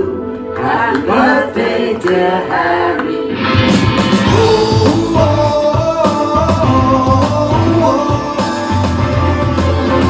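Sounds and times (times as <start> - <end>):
film soundtrack music: 0.0 - 10.0.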